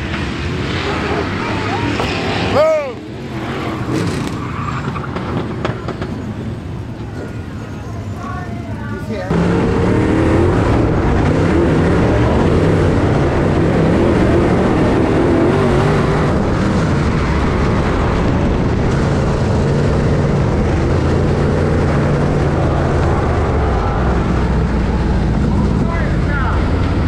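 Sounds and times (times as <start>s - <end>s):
race car engine running loud: 0.0s - 6.8s, 9.1s - 27.0s.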